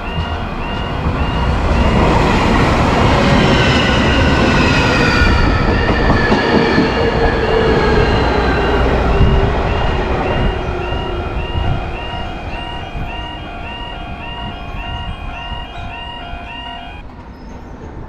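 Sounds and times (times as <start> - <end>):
train whine falling in pitch: 0.0 - 17.0
crossing warning bell dinging: 0.0 - 17.1
electric train passing: 0.0 - 18.0
train rumble and rail noise: 0.0 - 18.0.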